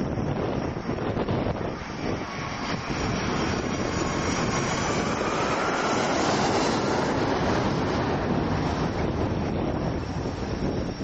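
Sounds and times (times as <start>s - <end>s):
faint rising whine: 0.0s - 11.0s
jet engines rushing: 0.0s - 11.0s.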